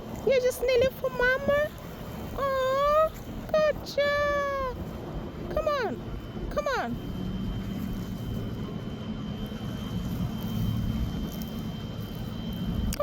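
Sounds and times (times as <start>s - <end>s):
distant engine rumble: 0.0s - 13.0s
faint high whine: 0.0s - 13.0s.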